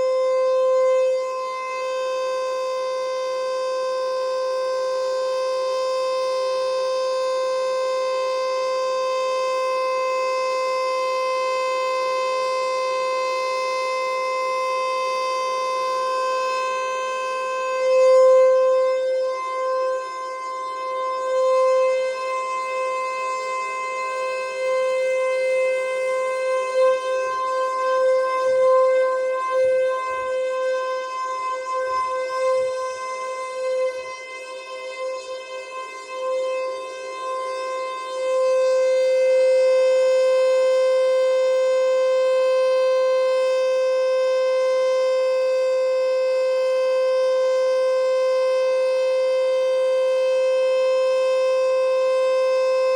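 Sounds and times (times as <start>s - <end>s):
outdoor warning siren: 0.0s - 52.9s.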